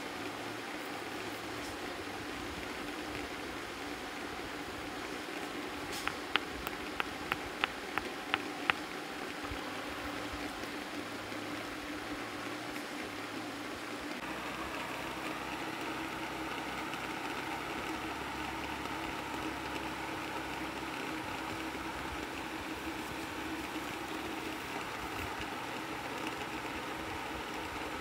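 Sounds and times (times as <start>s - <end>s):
faint steady hum: 0.0s - 28.0s
stream flowing over rocks: 0.0s - 28.0s.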